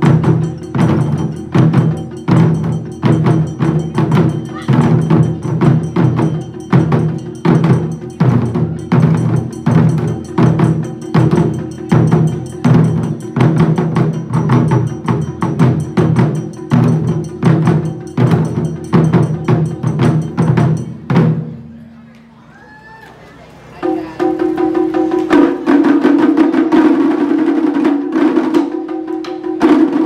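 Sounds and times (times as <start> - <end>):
drum ensemble beating drums: 0.0 - 21.9, 23.6 - 30.0.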